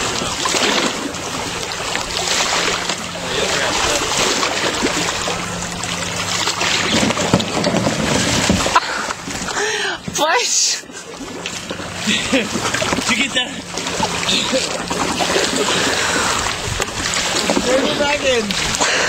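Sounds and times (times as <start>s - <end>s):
water rushing: 0.0s - 19.0s
water splashing beside boat: 0.0s - 19.0s.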